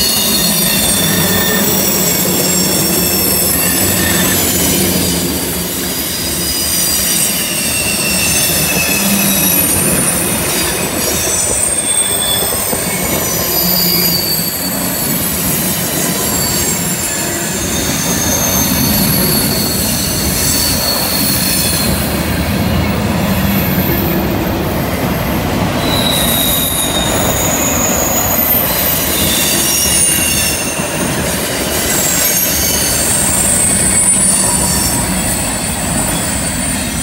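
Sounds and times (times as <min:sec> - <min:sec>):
high wheel squeals: 0:00.0 - 0:37.0
steel wheels rumbling on rail: 0:00.0 - 0:37.0.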